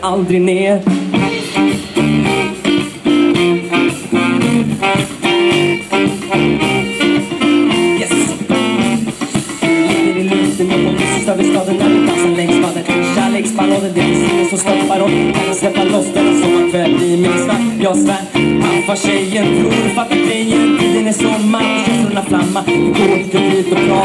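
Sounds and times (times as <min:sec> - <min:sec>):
bass guitar: 0:00.0 - 0:24.0
electric guitar: 0:00.0 - 0:24.0
live band playing: 0:00.7 - 0:24.0
drum kit beat: 0:00.8 - 0:24.0.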